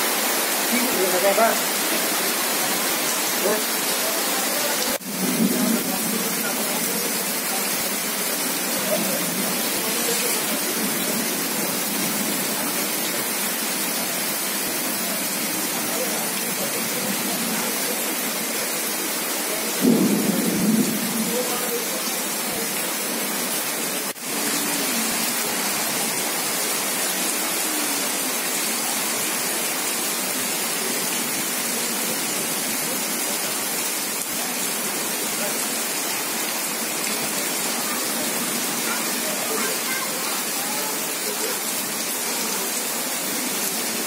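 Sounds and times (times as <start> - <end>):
heavy rain on wet pavement: 0.0 - 44.0.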